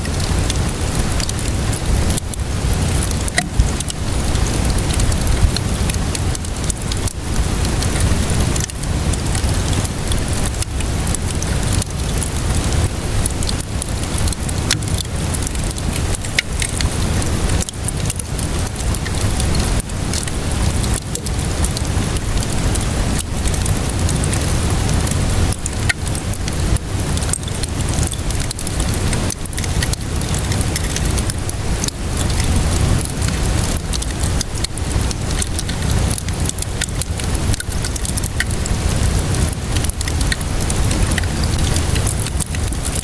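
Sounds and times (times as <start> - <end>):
low constant rumble: 0.0 - 43.0
steady rainfall: 0.0 - 43.0
wood fire crackling: 0.0 - 43.0.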